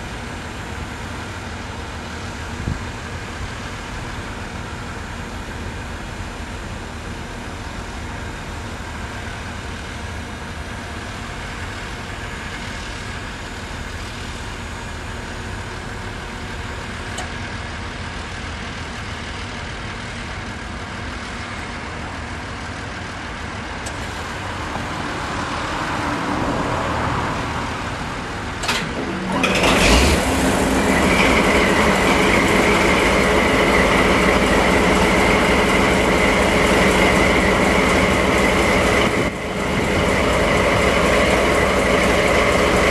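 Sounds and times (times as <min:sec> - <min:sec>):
diesel locomotive engine starting: 0:00.0 - 0:42.9.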